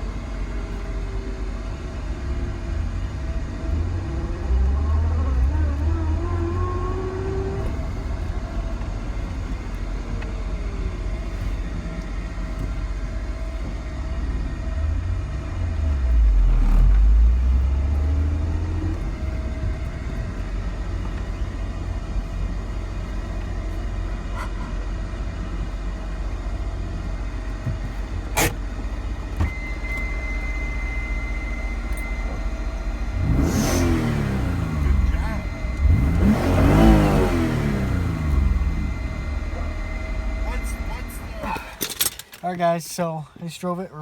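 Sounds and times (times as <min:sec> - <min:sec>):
car engine rumbling: 0:00.0 - 0:44.0.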